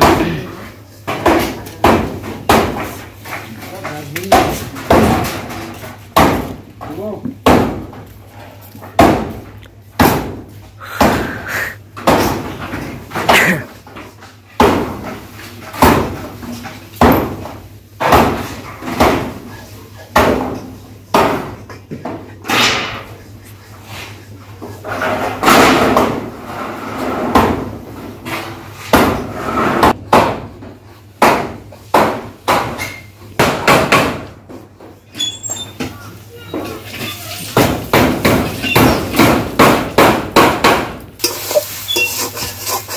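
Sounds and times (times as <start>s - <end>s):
hammer banging on metal sheets: 0.0s - 6.7s, 7.4s - 8.1s, 8.9s - 19.5s, 20.1s - 23.2s, 24.8s - 34.8s, 37.5s - 41.0s.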